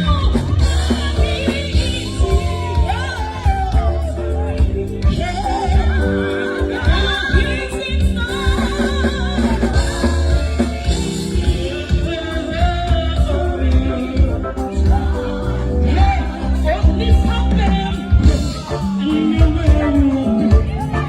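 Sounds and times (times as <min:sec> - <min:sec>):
live band music: 0:00.0 - 0:21.0
person singing with vibrato: 0:00.0 - 0:21.0.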